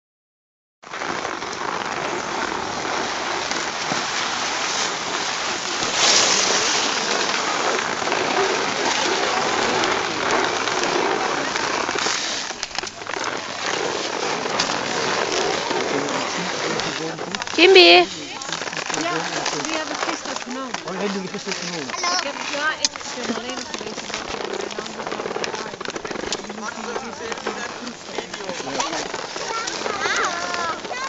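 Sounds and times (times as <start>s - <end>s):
skis scraping on snow: 0.8s - 31.0s.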